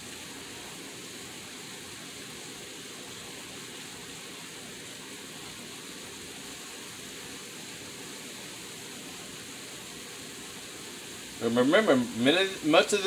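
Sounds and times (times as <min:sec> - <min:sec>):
vegetables sizzling in a skillet: 0:00.0 - 0:13.0.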